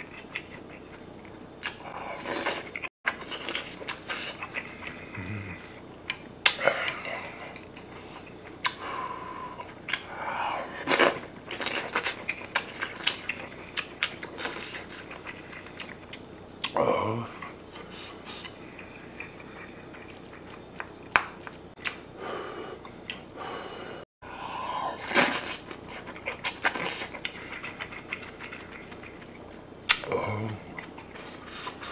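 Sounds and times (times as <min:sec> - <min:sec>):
person chewing food: 0:00.0 - 0:08.8, 0:09.4 - 0:22.0, 0:22.8 - 0:23.3, 0:24.9 - 0:31.9.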